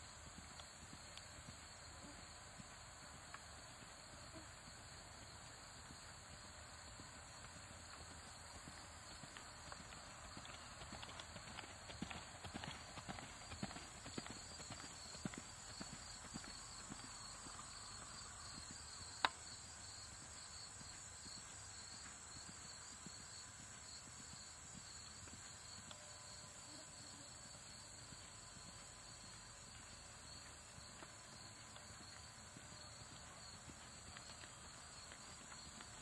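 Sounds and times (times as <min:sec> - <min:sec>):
hoofbeats on dirt: 0:00.0 - 0:36.0.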